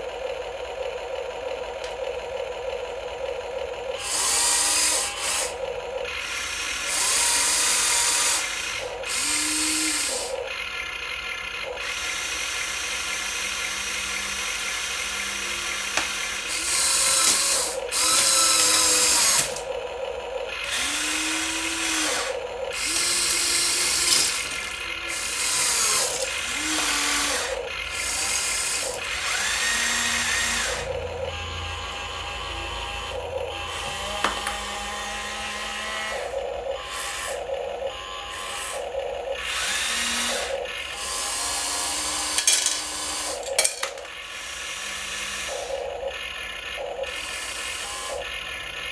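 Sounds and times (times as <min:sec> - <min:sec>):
small electric motors whirring: 0:02.6 - 0:48.9.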